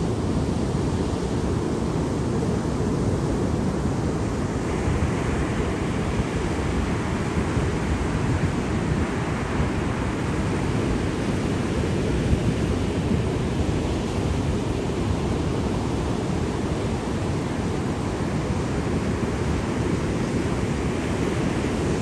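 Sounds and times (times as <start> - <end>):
sea surf washing: 0.0 - 22.0.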